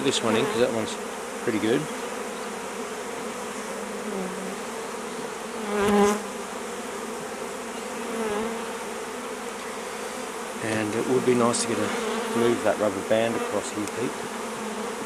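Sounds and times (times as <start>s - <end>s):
bees buzzing: 0.0s - 15.0s
single louder bee buzz: 0.0s - 15.0s.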